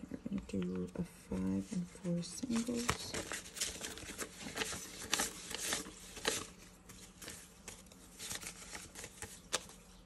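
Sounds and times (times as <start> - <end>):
paper banknotes rustling: 1.6 - 10.0.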